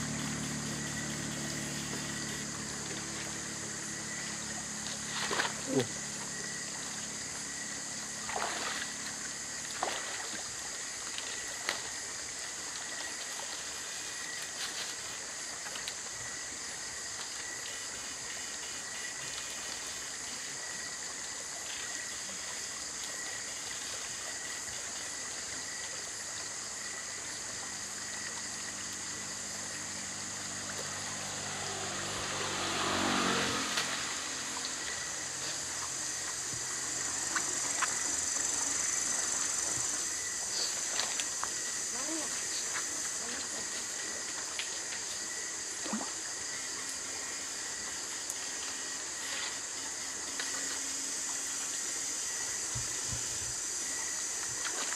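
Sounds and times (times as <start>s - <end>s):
night insects chirring: 0.0s - 54.9s
stream water trickling: 0.0s - 54.9s.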